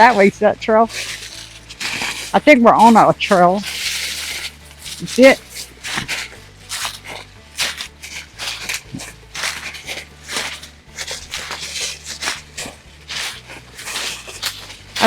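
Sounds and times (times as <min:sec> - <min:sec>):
footsteps on woodland ground cover: 0:00.0 - 0:15.0.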